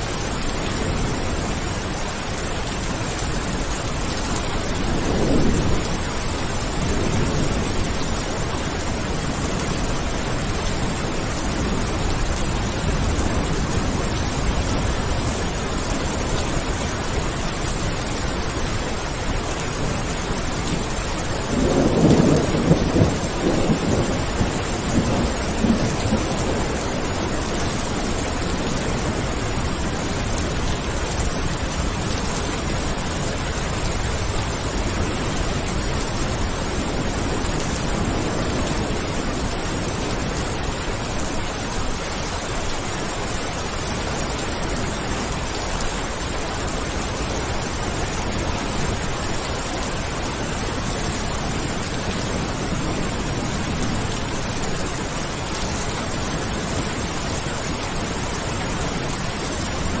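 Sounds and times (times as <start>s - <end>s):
heavy rain: 0.0s - 60.0s
thunder rumbling: 0.2s - 58.4s.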